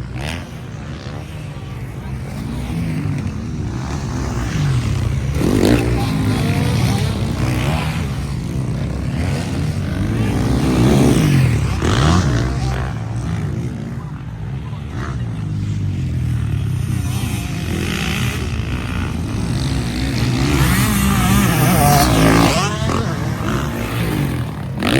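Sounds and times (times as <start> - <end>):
motocross bikes revving past: 0.0 - 24.9.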